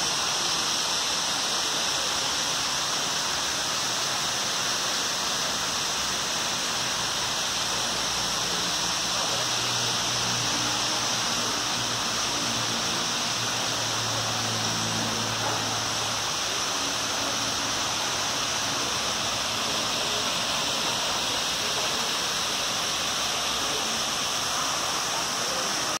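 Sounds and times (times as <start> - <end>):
water rushing in waterfall: 0.0 - 26.0.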